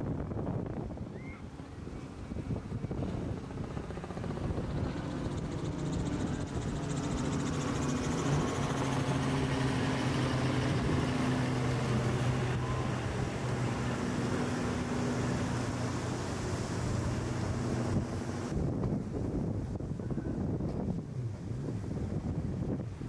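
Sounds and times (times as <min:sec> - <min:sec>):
boat engines running: 0:00.2 - 0:23.0.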